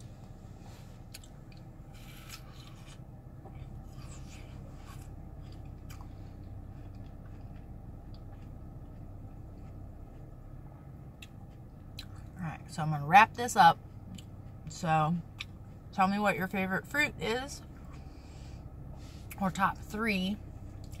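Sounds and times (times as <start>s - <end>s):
chewing watermelon: 0.0s - 16.6s, 20.4s - 21.0s
low hum in car cabin: 0.0s - 21.0s.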